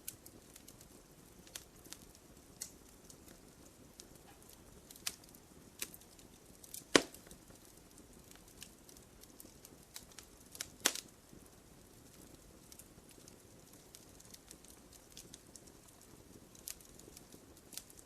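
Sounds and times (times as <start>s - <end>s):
fire hiss: 0.0s - 18.0s
wood fire crackling: 0.0s - 18.0s.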